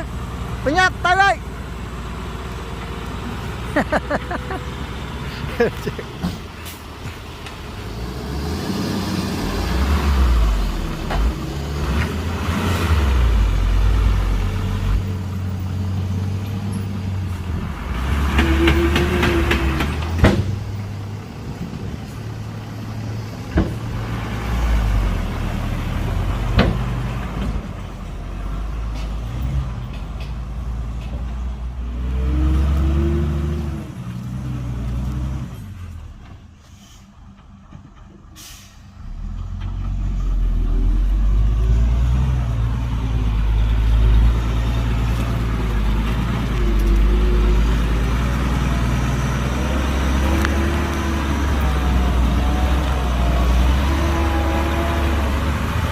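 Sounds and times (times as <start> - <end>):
diesel earthmoving machinery: 0.0 - 55.9.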